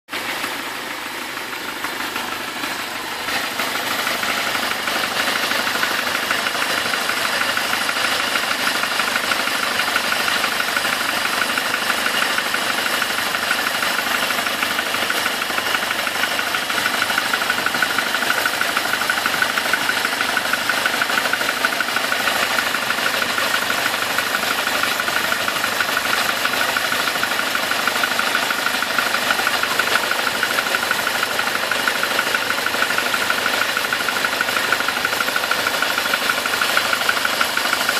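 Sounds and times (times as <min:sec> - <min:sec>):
car engine running: 0:00.1 - 0:37.9
metallic ticking rattle: 0:00.2 - 0:37.9.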